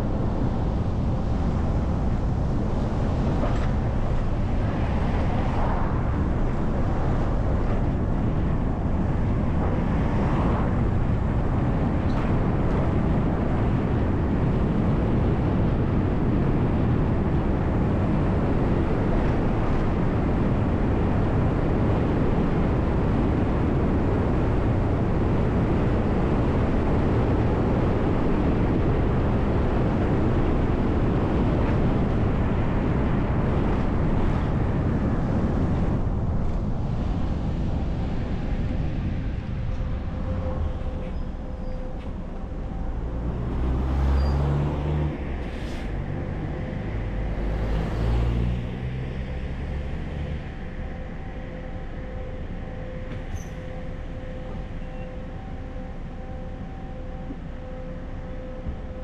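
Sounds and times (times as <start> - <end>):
bus engine and tyre rumble: 0.0 - 59.0.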